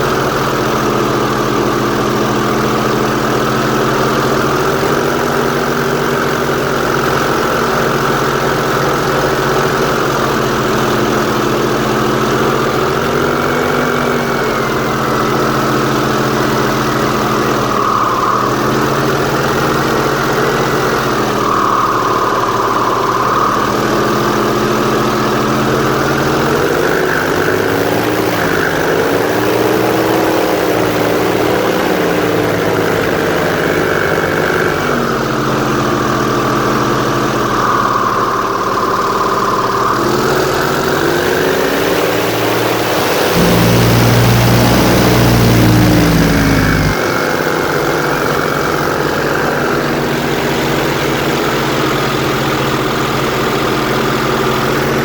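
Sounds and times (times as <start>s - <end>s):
airboat engine and propeller: 0.0s - 55.0s.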